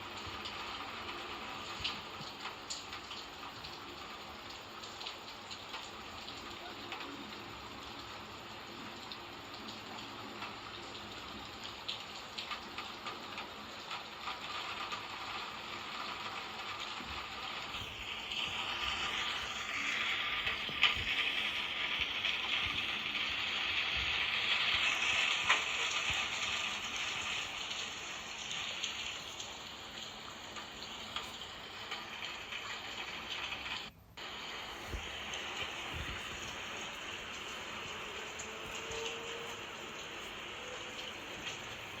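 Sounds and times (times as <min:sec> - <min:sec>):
rain hiss: 0:00.0 - 0:42.0.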